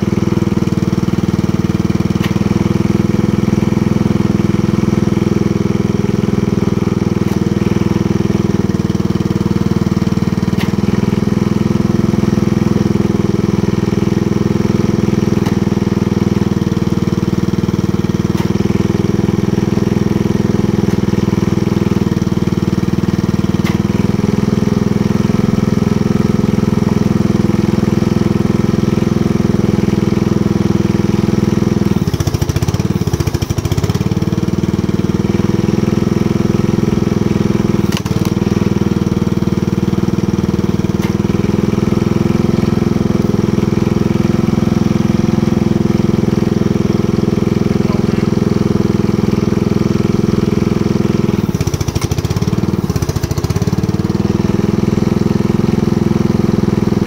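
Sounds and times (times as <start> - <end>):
log splitter engine running: 0.0 - 57.0.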